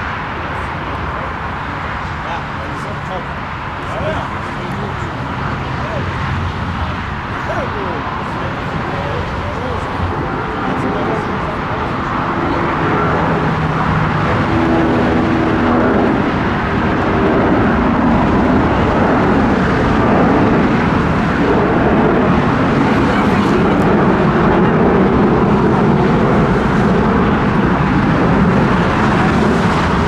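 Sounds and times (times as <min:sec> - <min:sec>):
faint steady tones: 0:00.0 - 0:30.0
jet engine noise: 0:00.0 - 0:30.0.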